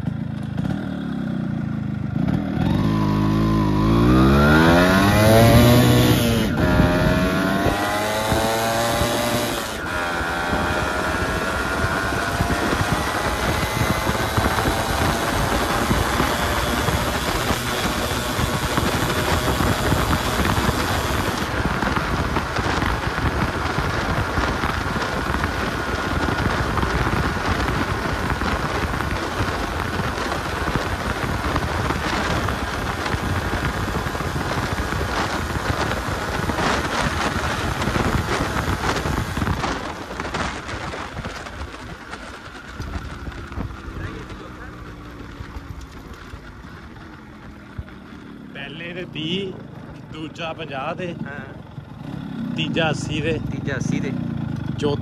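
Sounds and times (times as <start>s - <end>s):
motorcycle engine accelerating: 0.0s - 55.0s
wind rush on microphone: 2.5s - 48.0s.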